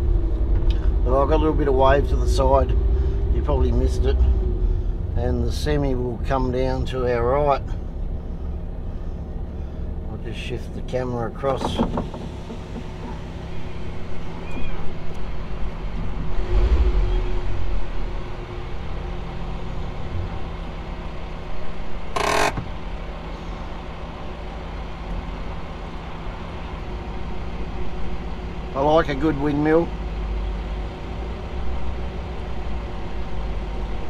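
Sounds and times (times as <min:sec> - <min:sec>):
deeper rumble: 0:00.0 - 0:34.0
vehicle engines idling: 0:00.0 - 0:34.0.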